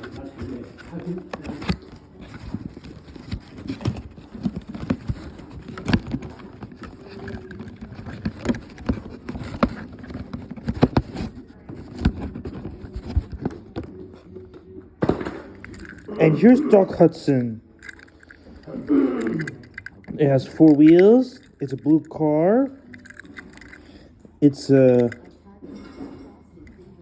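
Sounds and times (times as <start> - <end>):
toy cars and packaging handled: 0.0 - 14.3, 15.5 - 25.3.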